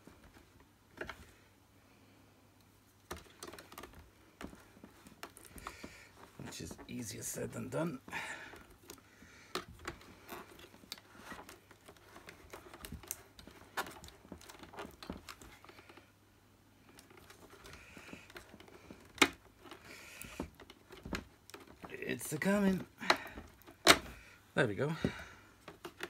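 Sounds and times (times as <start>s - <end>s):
vacuum hose rustling: 2.8s - 16.2s, 16.8s - 26.0s.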